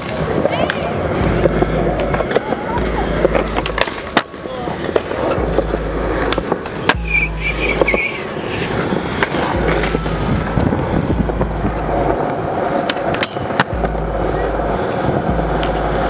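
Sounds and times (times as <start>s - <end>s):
skateboard clacking: 0.0s - 16.0s
skateboard wheels rolling on concrete: 0.0s - 16.0s.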